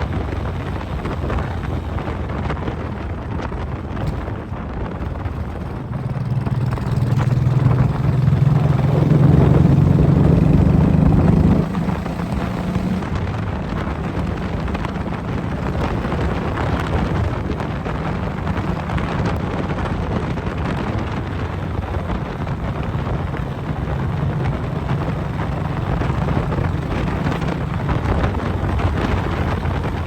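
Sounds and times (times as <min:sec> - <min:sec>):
engine humming: 0:00.0 - 0:30.0
wind buffeting microphone: 0:00.0 - 0:30.0.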